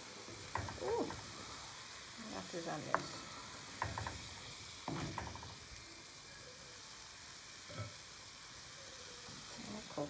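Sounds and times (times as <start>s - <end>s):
fish and onions sizzling in oil: 0.0s - 10.0s.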